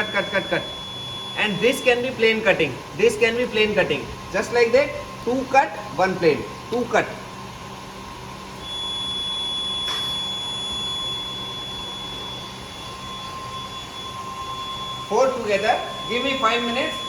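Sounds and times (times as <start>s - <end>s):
steady high-pitched tone: 0.0s - 6.6s, 8.6s - 17.0s
packing machine humming: 0.0s - 17.0s.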